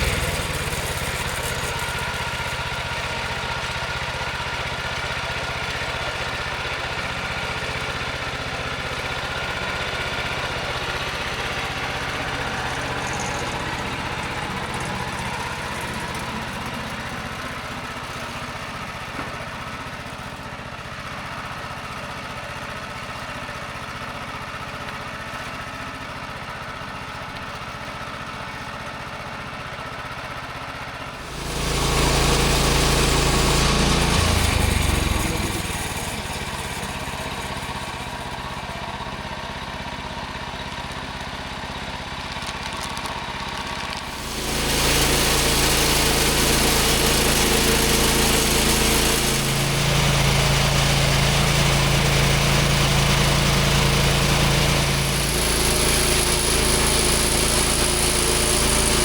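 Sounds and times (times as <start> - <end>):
small gas engine revving: 0.0 - 20.3, 31.1 - 59.0.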